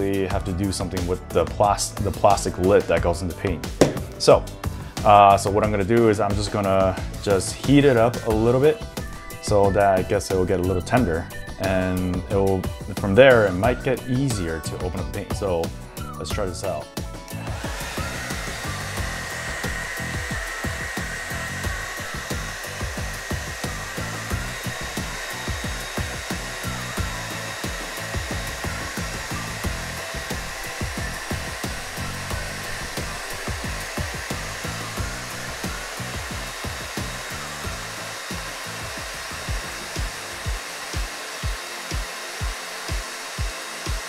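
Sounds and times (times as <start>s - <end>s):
hair dryer blowing: 1.6s - 44.0s.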